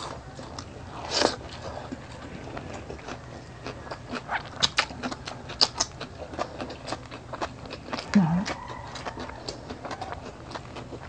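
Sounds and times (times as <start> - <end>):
chewing and lip smacking: 0.0 - 11.0.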